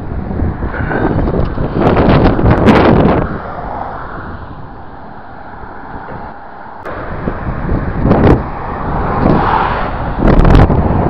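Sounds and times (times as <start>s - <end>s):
cars passing on highway: 0.0s - 11.0s.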